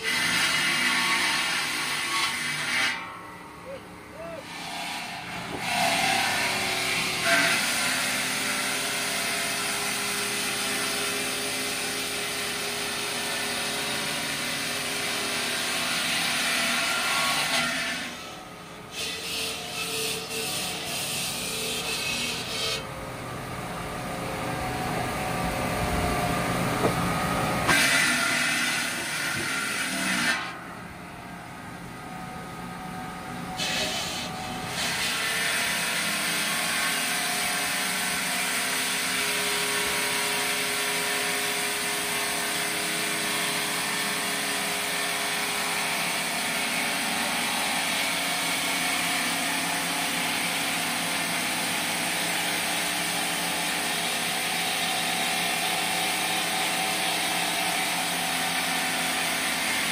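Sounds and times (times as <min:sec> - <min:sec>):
circular saw grinding through stone: 0:00.0 - 0:03.1, 0:04.4 - 0:18.3, 0:18.9 - 0:22.9, 0:27.6 - 0:30.6, 0:33.6 - 0:59.9.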